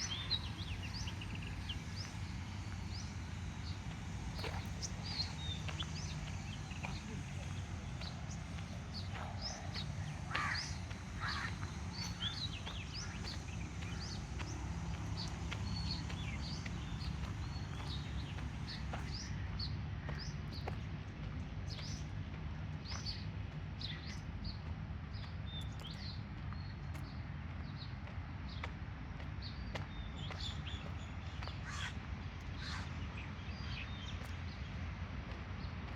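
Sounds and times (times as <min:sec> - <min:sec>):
small birds chirping: 0:00.0 - 0:35.9
steady low rumble: 0:00.0 - 0:35.9.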